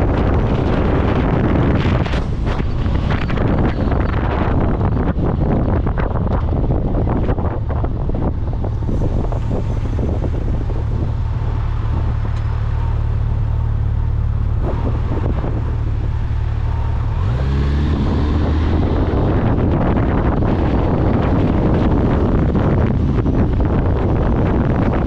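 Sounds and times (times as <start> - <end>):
vehicle engine running: 0.0 - 25.0
wind buffeting microphone: 0.0 - 25.0.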